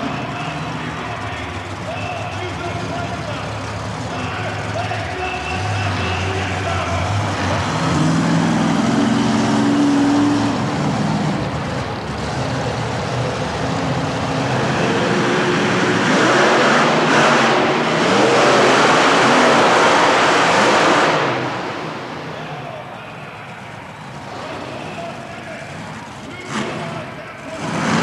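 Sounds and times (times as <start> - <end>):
truck engines revving hard: 0.0 - 28.0.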